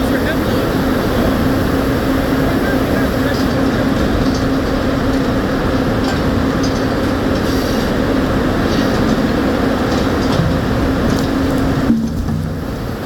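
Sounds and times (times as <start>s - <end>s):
constant low hum: 0.0s - 13.0s
sawmill machinery din: 0.0s - 13.0s.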